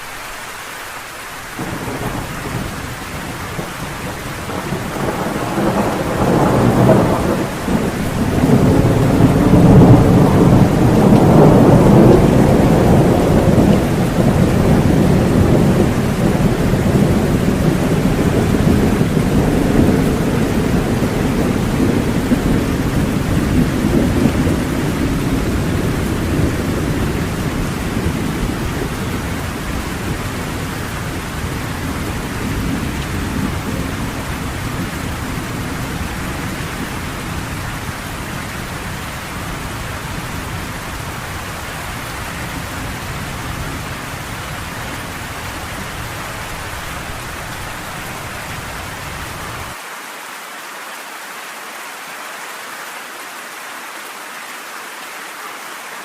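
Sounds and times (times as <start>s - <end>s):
steady rain: 0.0s - 56.0s
thunder rolling: 1.6s - 49.8s.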